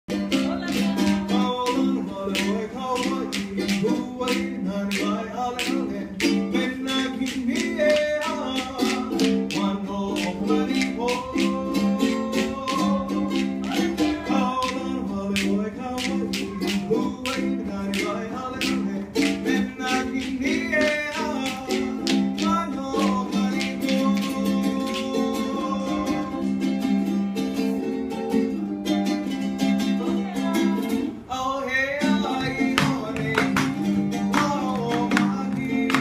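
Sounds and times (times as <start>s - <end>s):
ukulele strumming: 0.0s - 36.0s
man singing into a microphone: 0.1s - 26.5s, 30.0s - 36.0s.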